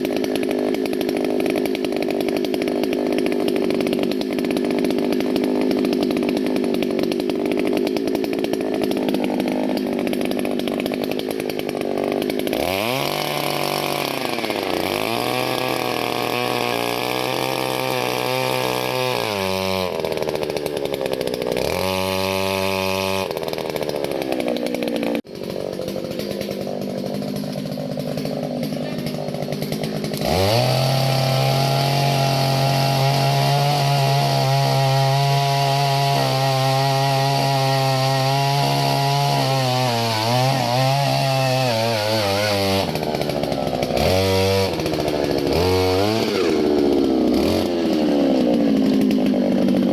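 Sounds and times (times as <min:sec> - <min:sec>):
earth auger engine boring: 0:00.0 - 0:49.9.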